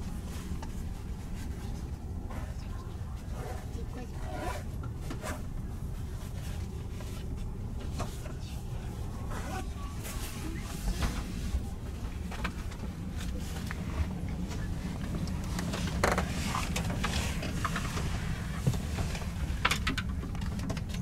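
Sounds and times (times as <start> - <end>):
train carriage hum: 0.0 - 21.0.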